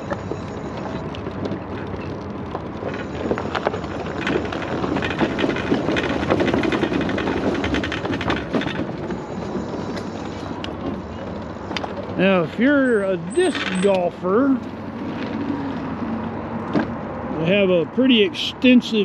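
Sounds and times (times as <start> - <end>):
wheels clattering on wooden boards: 0.0 - 17.0.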